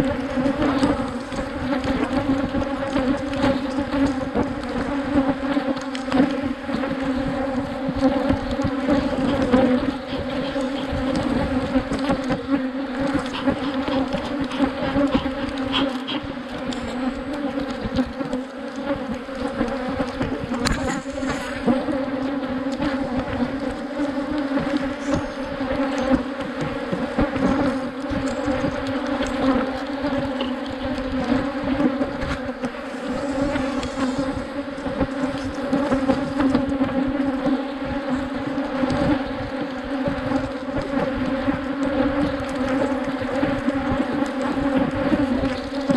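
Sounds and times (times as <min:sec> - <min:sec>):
bees buzzing: 0:00.0 - 0:45.9.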